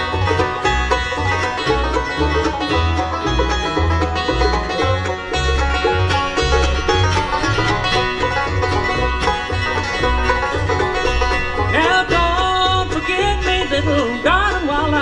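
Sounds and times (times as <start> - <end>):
acoustic guitar: 0.0 - 15.0
banjo: 0.0 - 15.0
dobro: 0.0 - 15.0
mandolin: 0.0 - 15.0
upright bass plucking: 0.0 - 15.0.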